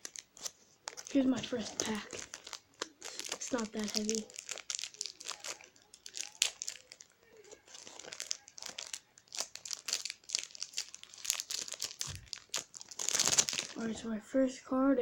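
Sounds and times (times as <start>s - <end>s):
foil wrapper crinkling and tearing: 0.0s - 13.9s.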